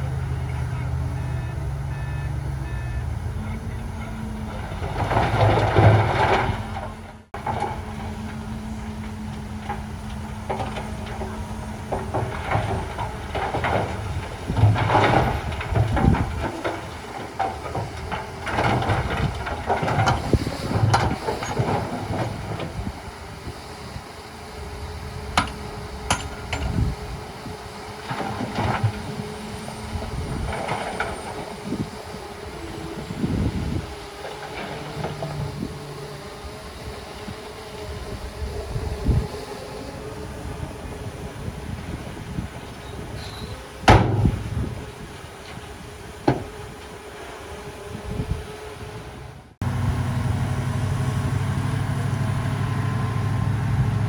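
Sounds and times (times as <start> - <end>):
diesel machinery engine surging: 0.0 - 54.0.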